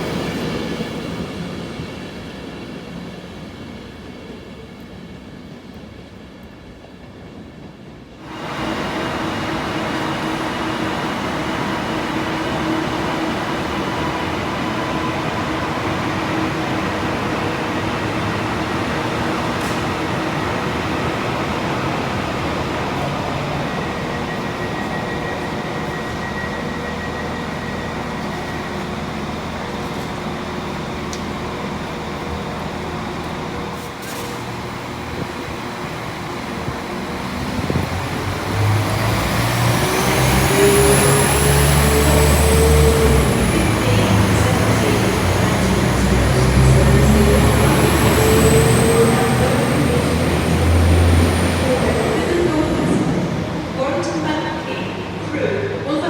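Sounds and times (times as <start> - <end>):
train rumble with hum: 0.0 - 56.0.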